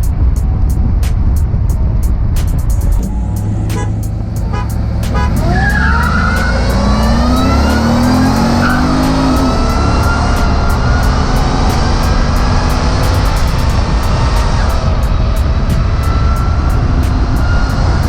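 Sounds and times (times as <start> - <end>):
engine accelerating at full throttle: 0.0 - 18.0.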